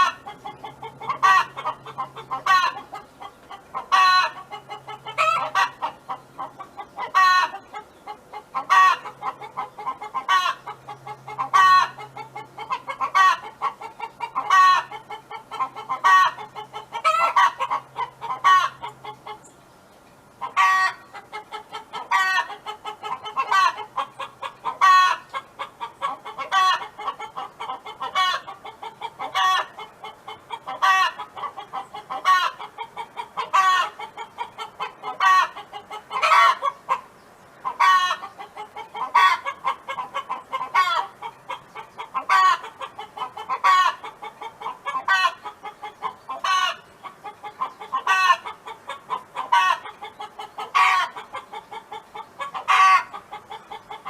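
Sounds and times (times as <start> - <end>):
hen clucking: 0.0 - 19.6, 20.3 - 54.0.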